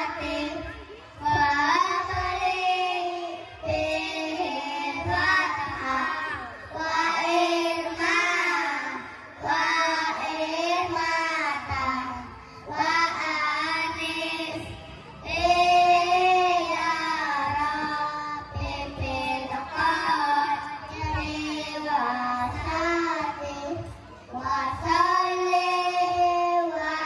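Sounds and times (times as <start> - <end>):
children singing in unison: 0.0 - 27.0.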